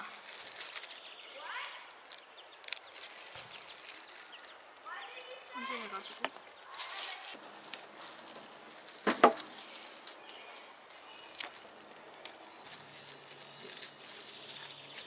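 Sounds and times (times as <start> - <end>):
shrimp shell crackling: 0.0 - 15.0.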